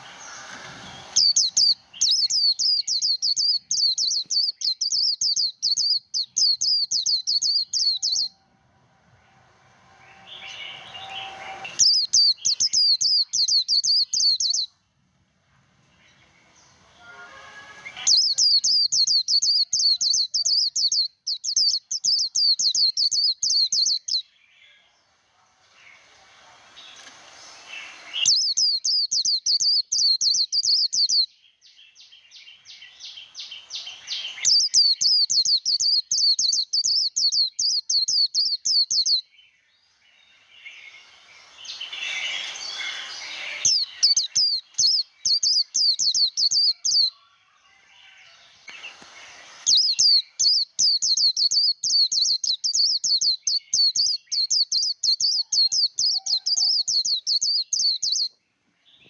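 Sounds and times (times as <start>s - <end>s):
bird high twittering trill: 0.0s - 8.5s, 9.8s - 14.7s, 16.0s - 24.3s, 26.8s - 31.3s, 32.1s - 39.3s, 39.9s - 58.4s
faint bird chatter: 0.0s - 14.9s, 15.8s - 59.0s.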